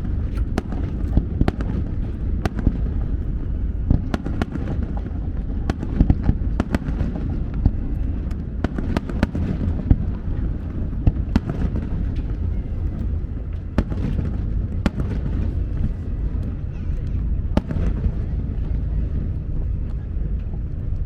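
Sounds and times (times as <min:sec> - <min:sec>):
fireworks bangs and crackles: 0:00.0 - 0:20.6
low rumble: 0:00.0 - 0:21.0.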